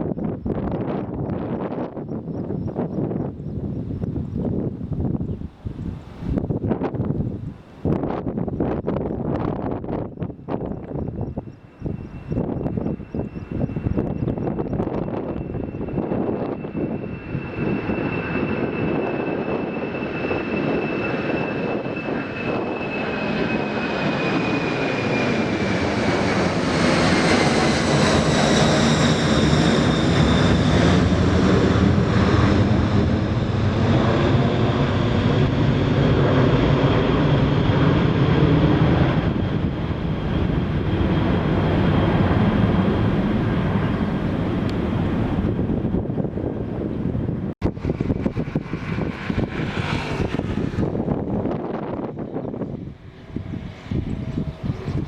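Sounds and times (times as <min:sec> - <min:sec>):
jet engine whine passing: 0:00.0 - 0:55.0.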